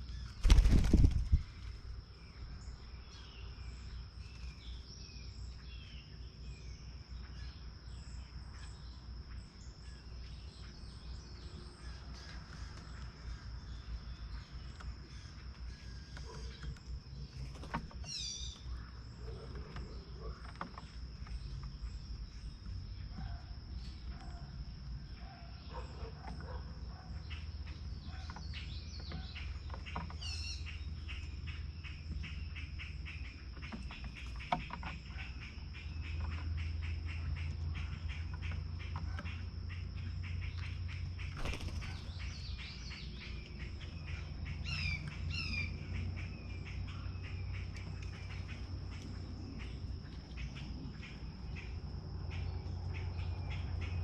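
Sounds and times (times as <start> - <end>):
songbirds chirping and calling: 0.0 - 54.0.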